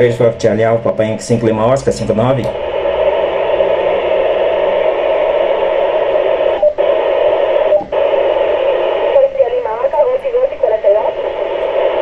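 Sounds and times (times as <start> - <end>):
radio static hiss: 1.5 - 12.0.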